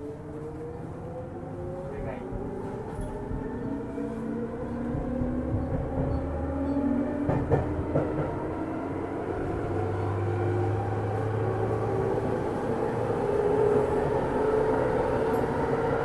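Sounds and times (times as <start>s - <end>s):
wheel-on-rail rumble: 0.3s - 16.0s.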